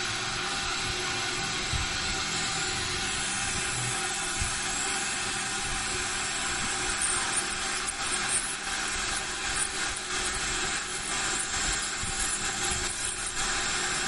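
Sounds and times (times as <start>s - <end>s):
ultrasonic scaler water spray: 1.8s - 14.0s.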